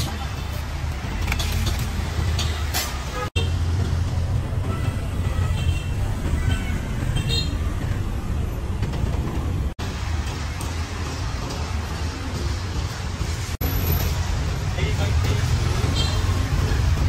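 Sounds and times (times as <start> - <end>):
rumble of cars and motorbikes: 0.0 - 17.0.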